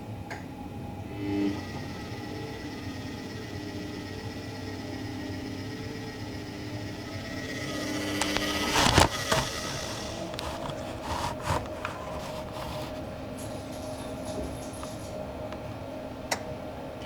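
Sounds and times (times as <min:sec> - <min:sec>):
washing machine motor whine: 0:00.0 - 0:17.0.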